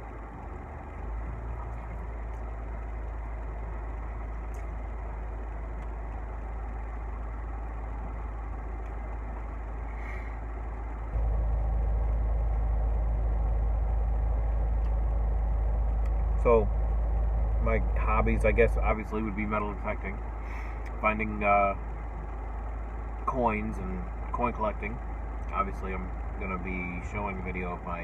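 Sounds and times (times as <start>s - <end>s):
low rumble with deep hum: 0.0s - 28.0s.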